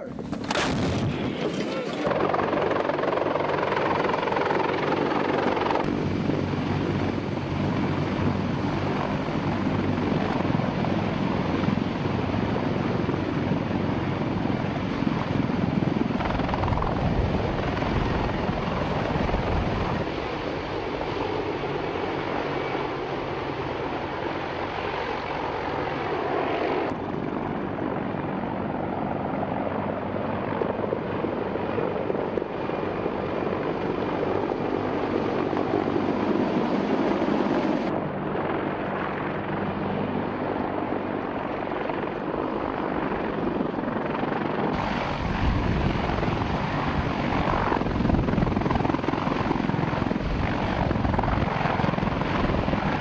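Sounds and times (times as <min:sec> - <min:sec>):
helicopter rotor and turbine din: 0:00.0 - 0:53.0.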